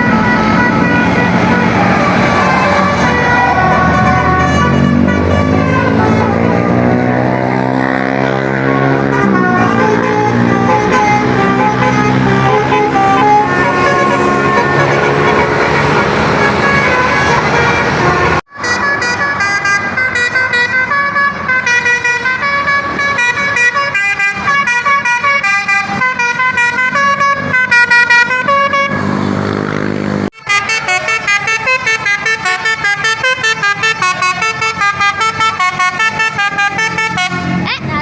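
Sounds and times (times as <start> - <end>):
multi-tone musical bus horn: 0.0 - 29.5, 30.2 - 38.0.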